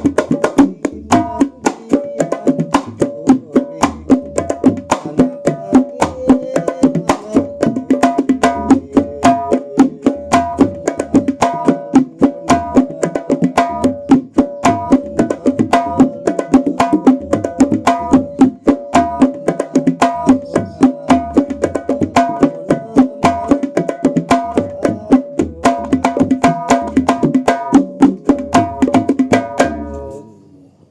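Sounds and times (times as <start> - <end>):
frame drums playing fast rhythm: 0.0 - 30.0.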